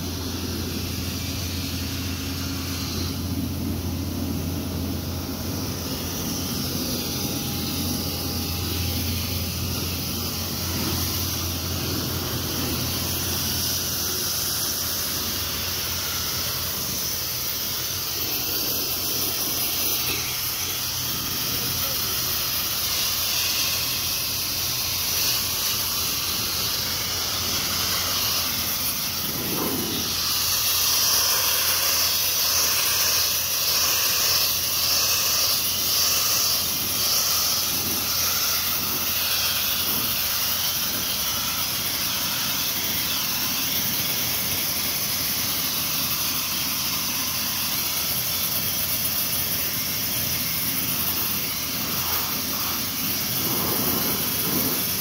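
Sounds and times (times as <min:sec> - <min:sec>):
sandblaster hissing: 0:00.0 - 0:55.0.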